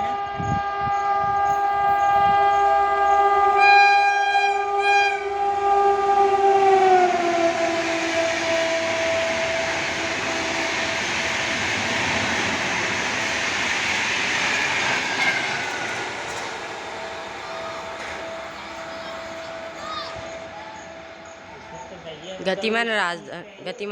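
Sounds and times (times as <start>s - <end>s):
train horn: 0.0s - 22.6s
speeding train rushing: 0.0s - 23.9s.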